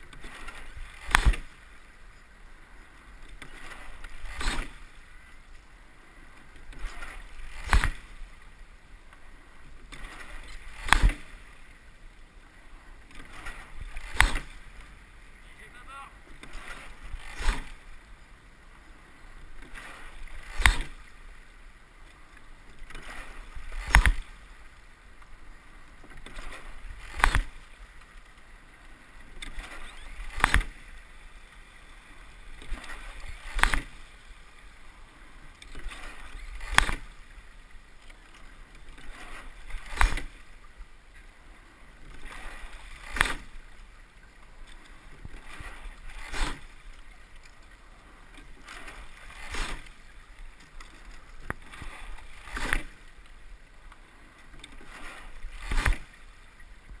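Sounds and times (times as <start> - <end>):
oars clunking in oarlocks: 0.0 - 57.0
water rushing along hull: 0.0 - 57.0.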